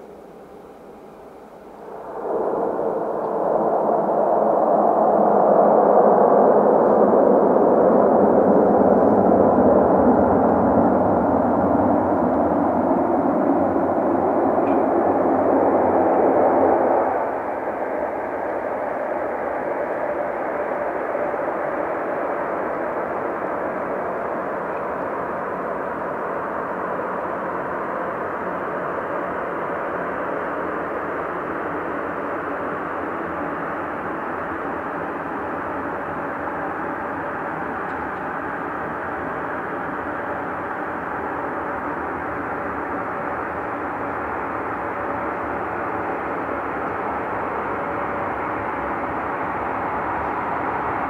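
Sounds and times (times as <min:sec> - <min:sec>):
turboprop engines droning: 0:00.0 - 0:51.0.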